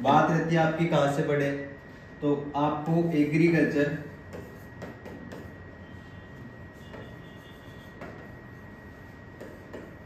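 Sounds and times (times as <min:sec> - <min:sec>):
thin high whine: 0:00.0 - 0:10.0.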